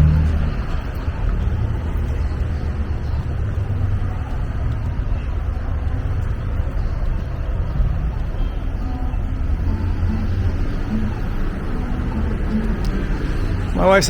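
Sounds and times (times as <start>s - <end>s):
low rumble of street noise: 0.0s - 14.0s.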